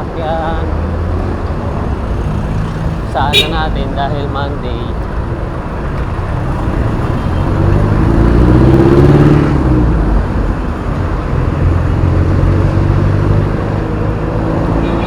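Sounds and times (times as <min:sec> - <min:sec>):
road traffic rumble: 0:00.0 - 0:15.0
vehicle engine passing close: 0:00.0 - 0:15.0.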